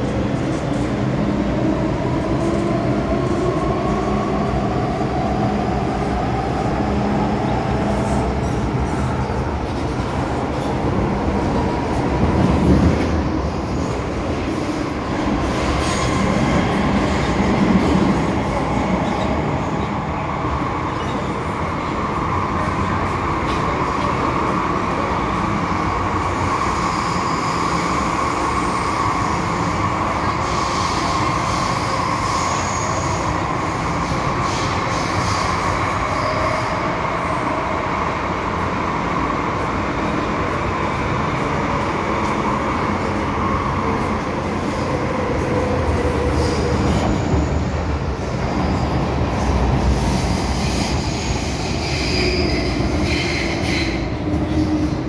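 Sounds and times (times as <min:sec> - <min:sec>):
metro train running: 0:00.0 - 0:55.0.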